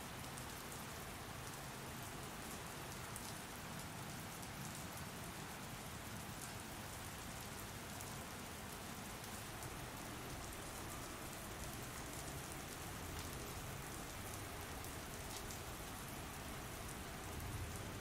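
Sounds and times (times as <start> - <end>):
rain falling: 0.0 - 18.0
raindrops pattering on a surface: 0.0 - 18.0.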